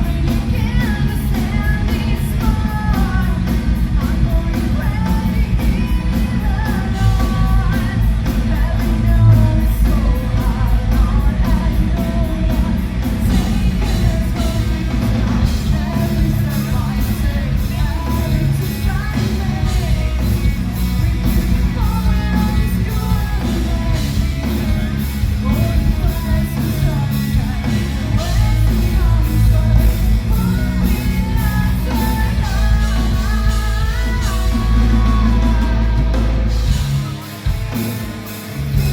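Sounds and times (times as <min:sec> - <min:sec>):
metal band playing live: 0:00.0 - 0:38.9
person singing lead vocals: 0:00.0 - 0:38.9.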